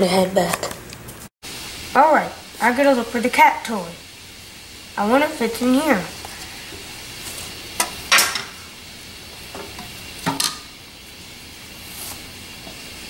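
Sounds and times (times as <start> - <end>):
steady background hiss: 1.4 - 13.0.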